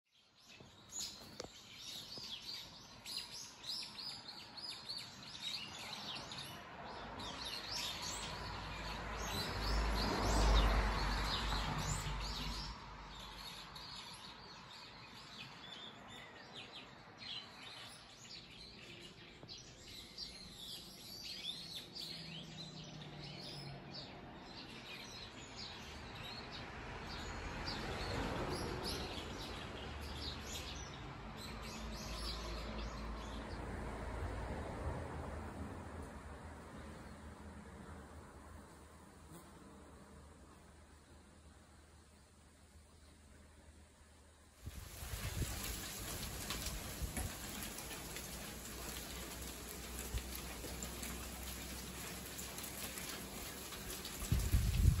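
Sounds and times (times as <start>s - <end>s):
small birds chirping: 0.1s - 33.5s, 40.5s - 55.0s.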